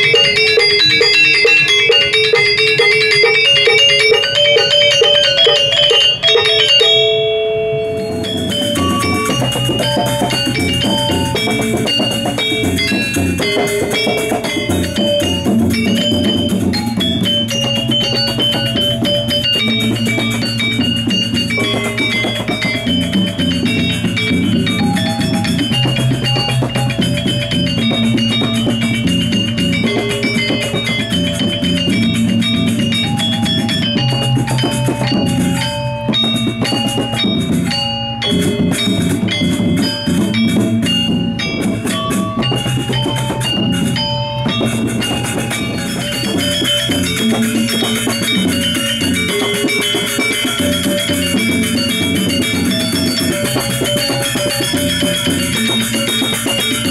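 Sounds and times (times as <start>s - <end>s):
barrel drum: 0.0s - 56.9s
gongs: 0.0s - 56.9s
low held tone: 0.0s - 56.9s
metallophones ringing: 0.0s - 56.9s.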